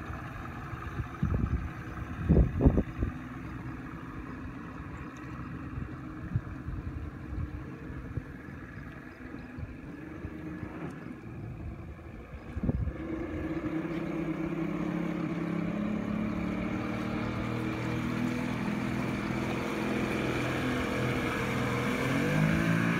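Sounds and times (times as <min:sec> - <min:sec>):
outboard motor running: 0:00.0 - 0:22.9.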